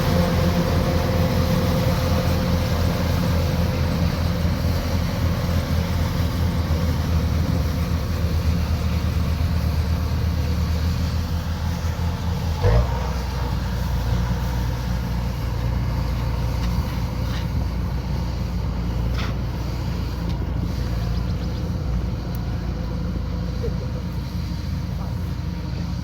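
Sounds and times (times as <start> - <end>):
combine harvester engine humming: 0.0 - 26.0.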